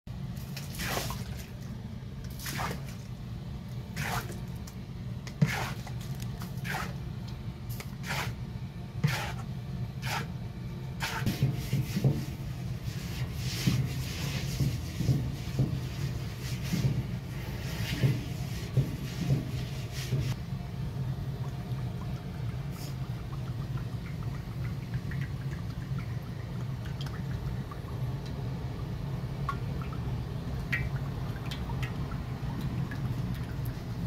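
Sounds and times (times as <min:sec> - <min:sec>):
steady low hum: 0:00.1 - 0:34.0.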